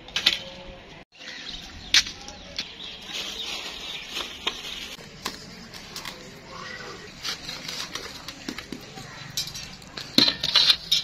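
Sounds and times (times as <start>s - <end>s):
birds chirping: 0.4s - 10.1s.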